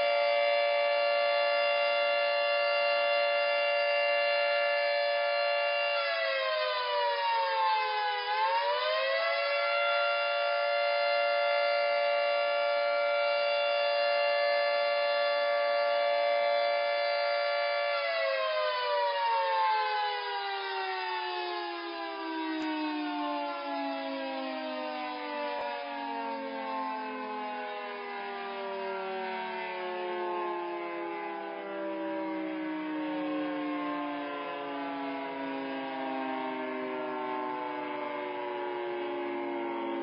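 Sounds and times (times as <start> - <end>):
warning siren wailing: 0.0 - 40.0.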